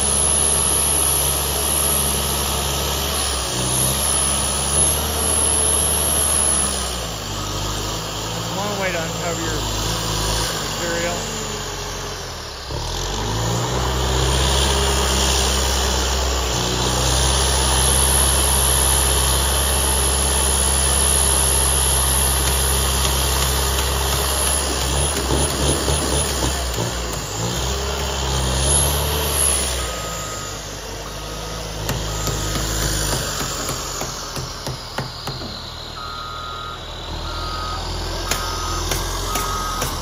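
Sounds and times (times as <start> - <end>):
diesel engine revving: 0.0 - 40.0.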